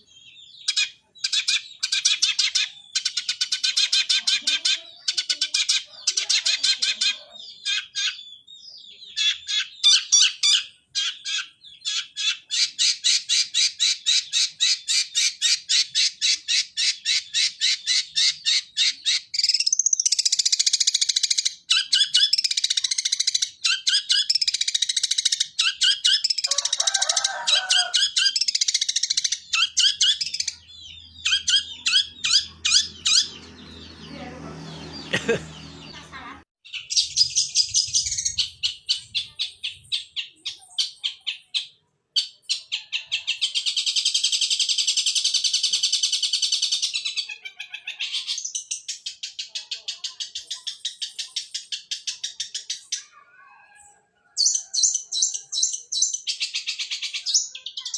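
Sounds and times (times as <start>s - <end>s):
bird chirping and chattering: 0.0s - 57.9s.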